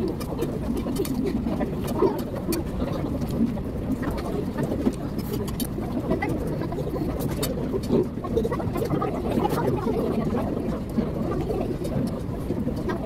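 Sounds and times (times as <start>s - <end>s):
murmur of diners' voices: 0.0s - 12.2s.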